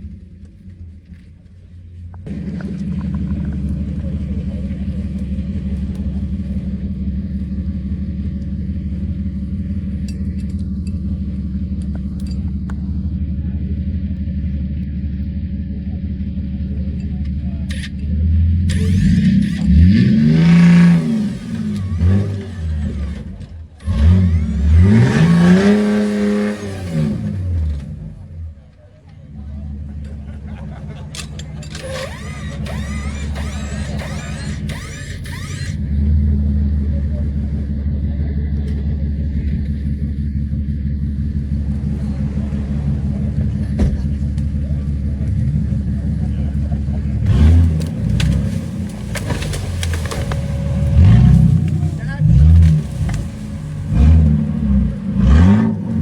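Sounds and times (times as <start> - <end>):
off-road vehicle engine rumbling: 0.0 - 56.0.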